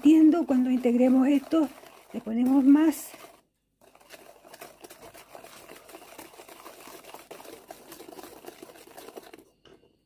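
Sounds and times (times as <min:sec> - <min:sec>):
whisk clicking against metal bowl: 0:00.0 - 0:09.8
wet stirring of batter: 0:00.0 - 0:10.0.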